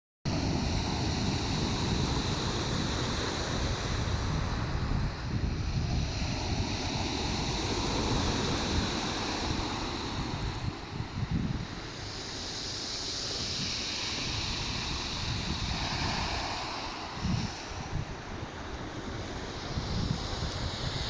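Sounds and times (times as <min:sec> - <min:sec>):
sea surf washing ashore: 0:00.3 - 0:21.0
wind buffeting microphone: 0:00.3 - 0:21.0.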